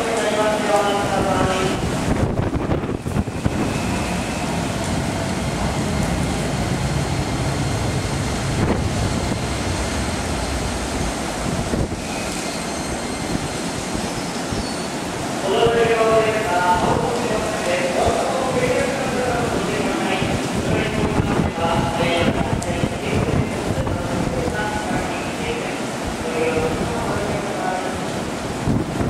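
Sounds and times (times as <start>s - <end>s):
electric train rumbling: 0.0s - 29.0s
wind noise on microphone: 0.8s - 14.8s, 15.5s - 25.2s, 28.2s - 29.0s.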